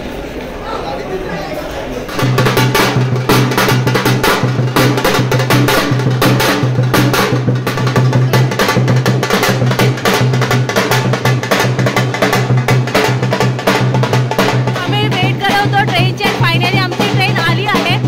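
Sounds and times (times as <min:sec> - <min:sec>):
fast dense drumming: 0:02.1 - 0:18.0.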